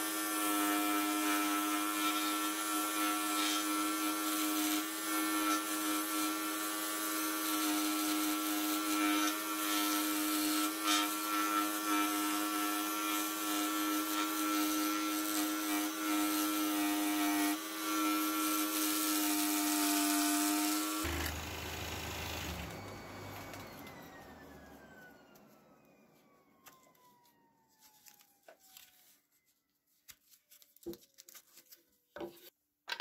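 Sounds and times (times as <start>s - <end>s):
scroll saw cutting wood: 0.0s - 28.4s.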